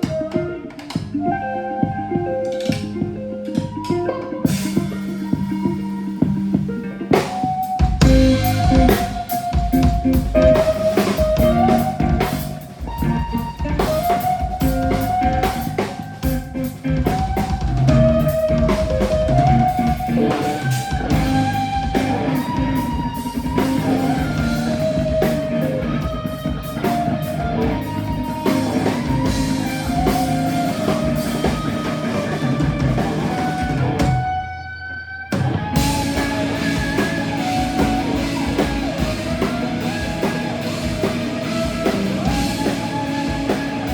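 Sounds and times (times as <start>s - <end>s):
guitar melody: 0.0s - 43.9s
rock band playing: 0.0s - 43.9s.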